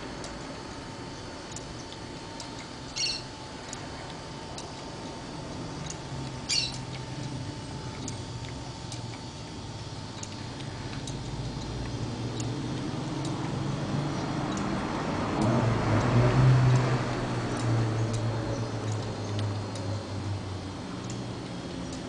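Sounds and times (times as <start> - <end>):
light ticking: 0.0 - 22.0
motorcycle engine model mechanical hum: 0.0 - 22.0.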